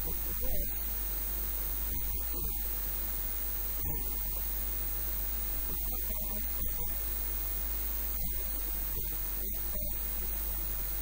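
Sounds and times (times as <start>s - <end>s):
electrical mains hum: 0.0s - 11.0s
steady hiss: 0.0s - 11.0s.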